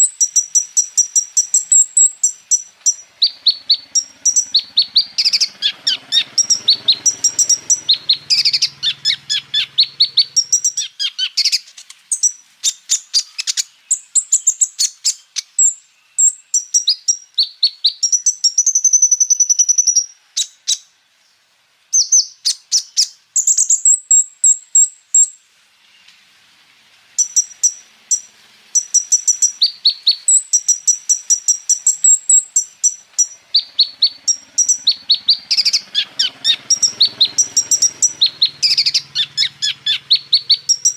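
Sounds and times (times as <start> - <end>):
sunbird twittering song: 0.0 - 26.4, 27.1 - 40.9.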